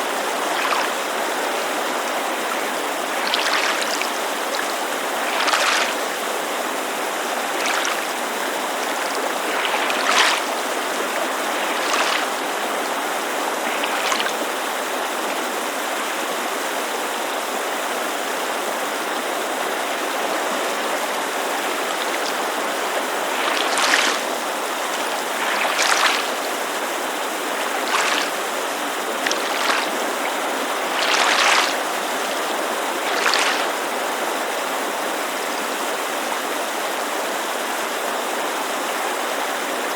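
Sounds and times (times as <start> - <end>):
water lapping against shore: 0.0 - 17.2, 17.8 - 35.0
creek rushing: 0.0 - 39.9.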